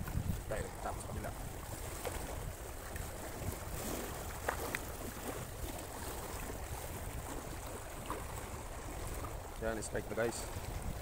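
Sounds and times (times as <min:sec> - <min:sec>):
choppy water: 0:00.0 - 0:11.0
wind rumble on microphone: 0:00.0 - 0:11.0.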